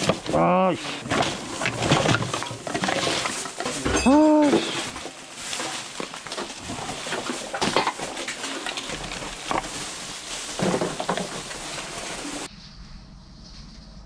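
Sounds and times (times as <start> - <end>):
bottles and cans clattering: 0.0 - 12.5
plastic trash bags rustling: 0.0 - 12.5.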